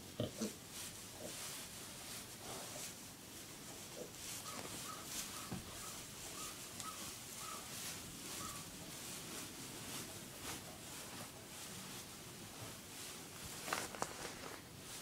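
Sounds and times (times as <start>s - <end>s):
straw rustling: 0.4s - 15.0s.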